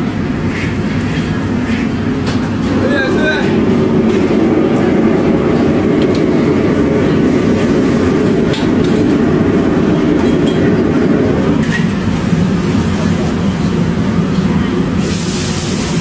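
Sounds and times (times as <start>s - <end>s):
gas burners roaring: 0.0s - 16.0s.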